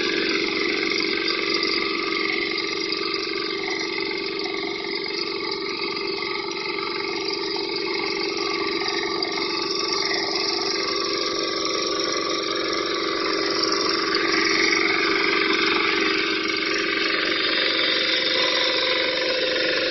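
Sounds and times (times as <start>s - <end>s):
power tiller engine running: 0.0s - 19.9s.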